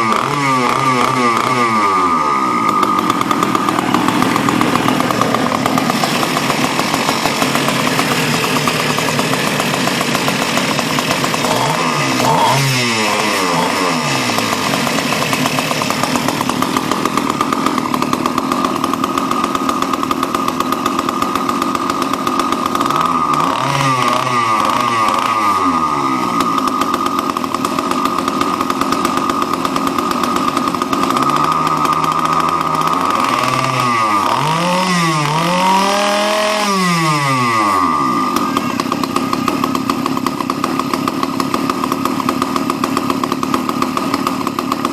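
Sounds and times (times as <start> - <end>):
small two-stroke engine buzzing: 0.0 - 44.9.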